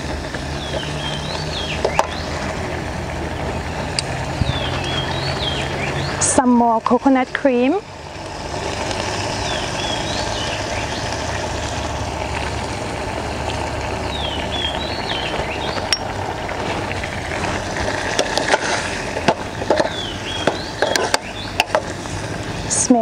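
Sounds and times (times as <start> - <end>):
gas stove burner hiss: 0.0 - 23.0.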